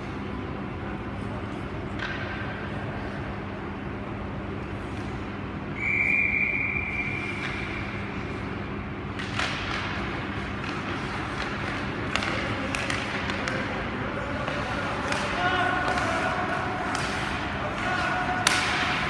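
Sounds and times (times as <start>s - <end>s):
ice arena hum: 0.0s - 19.0s.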